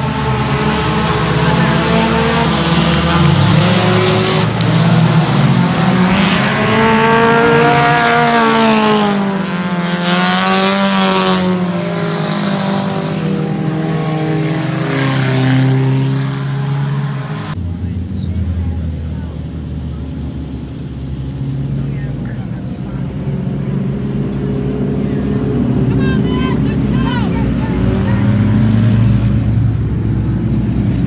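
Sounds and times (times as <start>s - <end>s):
race car engines: 0.0s - 31.0s.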